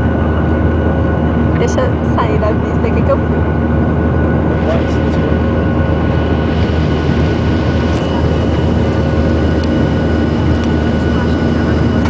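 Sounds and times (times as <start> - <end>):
jet cabin engine and airflow noise: 0.0 - 12.0.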